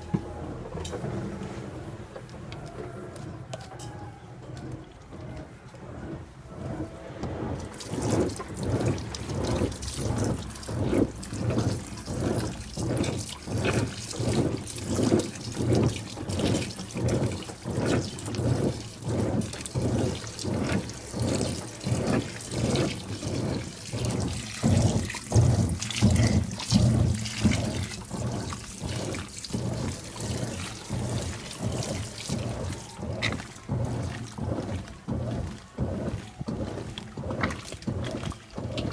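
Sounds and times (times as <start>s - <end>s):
washing machine water sloshing: 0.0s - 38.9s.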